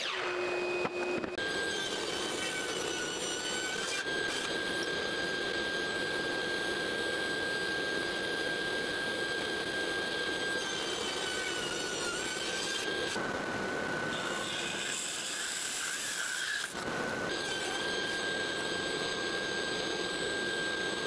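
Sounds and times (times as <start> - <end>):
table saw whining: 0.0 - 21.0.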